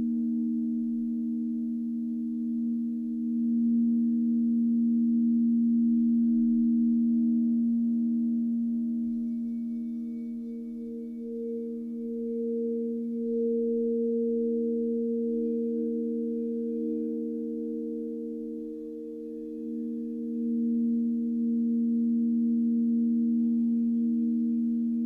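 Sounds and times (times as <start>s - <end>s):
crystal singing bowls: 0.0s - 25.0s.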